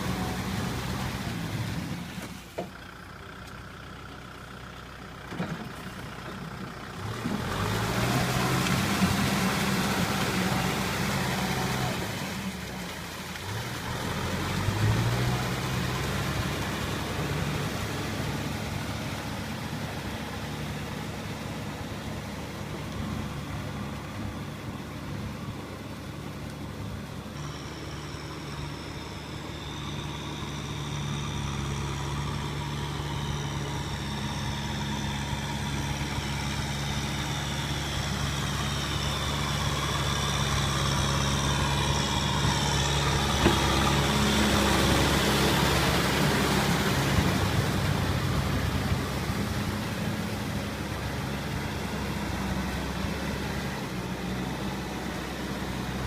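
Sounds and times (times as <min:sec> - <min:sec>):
tractor diesel engine revving: 0:00.0 - 0:56.0.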